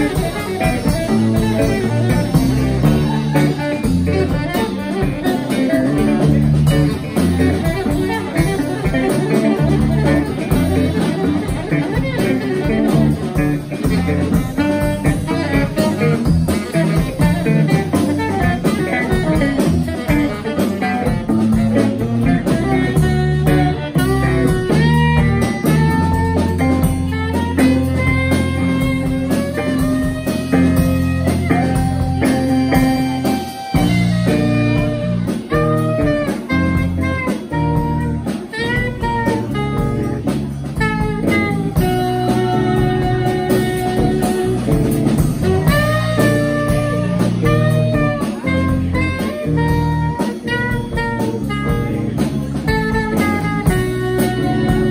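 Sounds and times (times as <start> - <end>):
drum kit: 0.0 - 54.9
electric bass guitar: 0.0 - 54.9
saxophone melody: 0.0 - 54.9.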